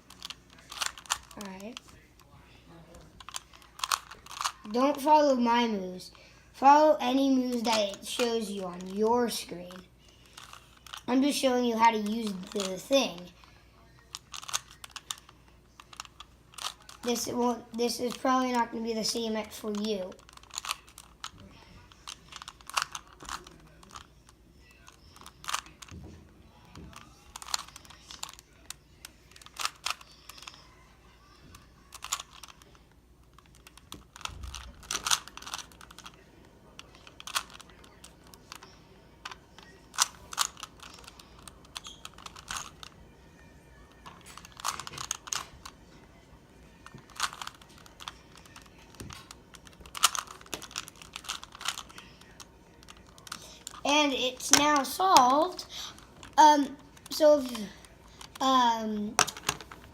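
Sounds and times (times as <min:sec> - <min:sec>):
puzzle cube clicking: 0:00.1 - 0:02.0, 0:03.2 - 0:05.5, 0:07.2 - 0:13.3, 0:14.1 - 0:15.2, 0:15.8 - 0:21.4, 0:22.0 - 0:24.1, 0:24.8 - 0:26.0, 0:26.9 - 0:30.6, 0:31.9 - 0:32.6, 0:33.3 - 0:36.2, 0:36.8 - 0:43.0, 0:44.0 - 0:45.8, 0:46.8 - 0:59.9.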